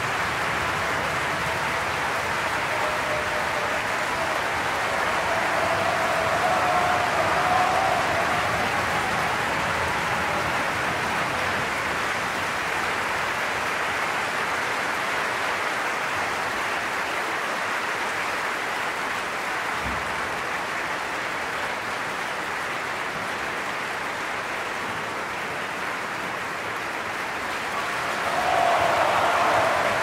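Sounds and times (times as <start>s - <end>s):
audience applauding: 0.0s - 30.0s.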